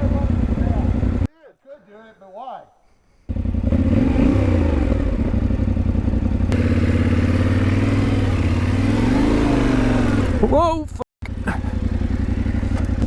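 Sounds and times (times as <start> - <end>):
motorcycle engine running: 0.0 - 1.3, 3.3 - 13.0.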